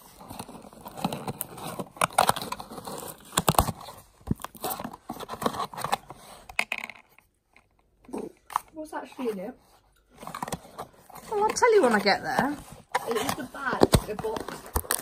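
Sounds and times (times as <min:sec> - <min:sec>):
cardboard and paper crinkling: 0:00.0 - 0:15.0.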